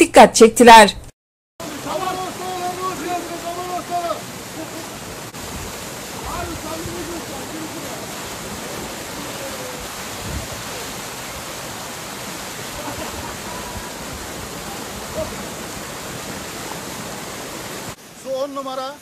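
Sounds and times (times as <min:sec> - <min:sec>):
waterfall rushing: 0:01.6 - 0:19.0.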